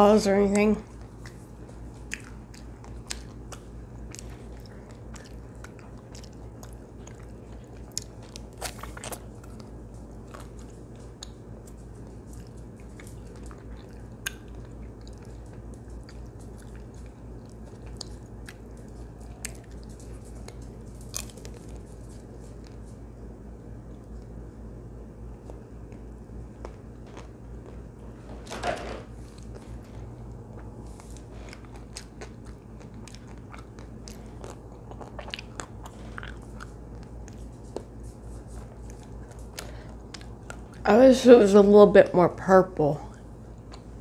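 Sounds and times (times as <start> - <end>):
low hum: 0.0 - 44.0
person chewing: 0.9 - 22.8, 25.4 - 28.2, 29.2 - 40.8, 43.2 - 44.0.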